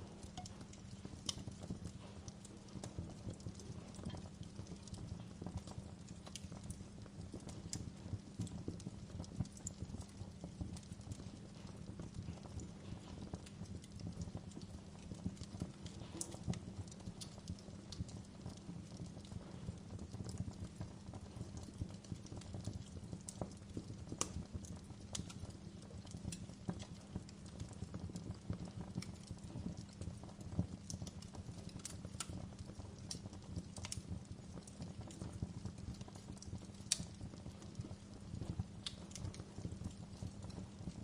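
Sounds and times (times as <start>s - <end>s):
fire crackling and popping: 0.0s - 41.0s
low rumble of fire: 0.0s - 41.0s.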